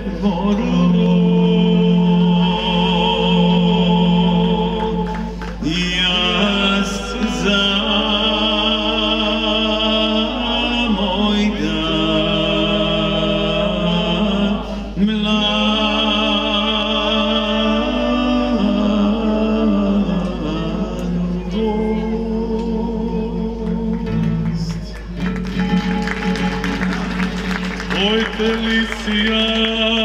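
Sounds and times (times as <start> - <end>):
acoustic guitar strumming: 0.0 - 14.0, 15.7 - 30.0
mixed choir singing: 0.0 - 24.0
male lead voice singing: 0.0 - 24.7, 27.9 - 30.0.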